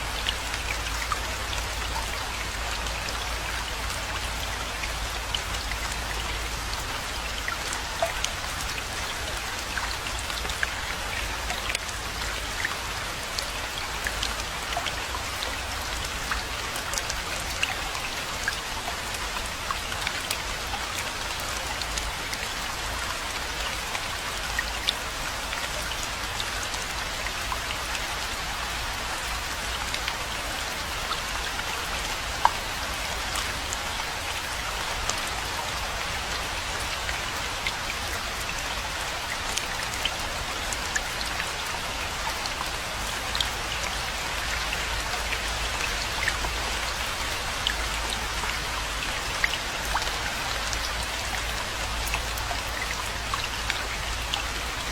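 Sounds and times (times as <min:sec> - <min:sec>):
raindrops ticking on a surface: 0:00.0 - 0:54.9
steady rainfall: 0:00.0 - 0:54.9.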